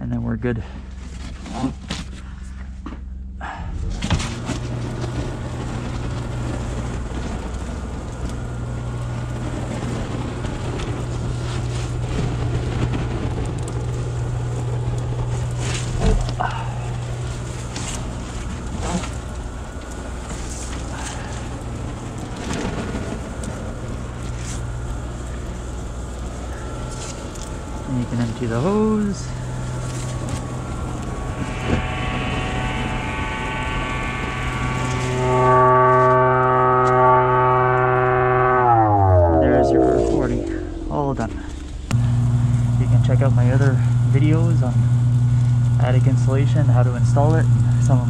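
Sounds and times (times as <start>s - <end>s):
blowing machine hum and air rush: 0.0s - 48.0s.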